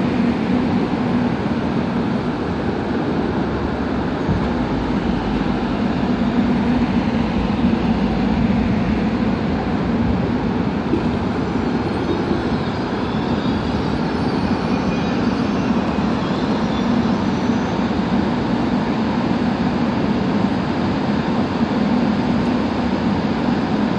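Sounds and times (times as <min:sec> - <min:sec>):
train wheels rumbling: 0:00.0 - 0:23.7.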